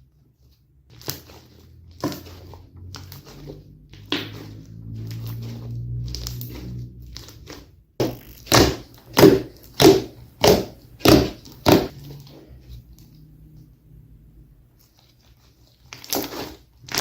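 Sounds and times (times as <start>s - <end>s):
slime squelching: 0.0s - 17.0s.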